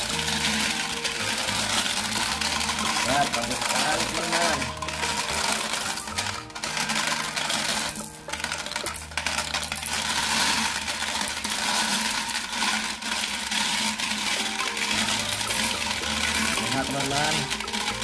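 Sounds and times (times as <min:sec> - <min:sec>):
glass marbles clattering: 0:00.0 - 0:18.0.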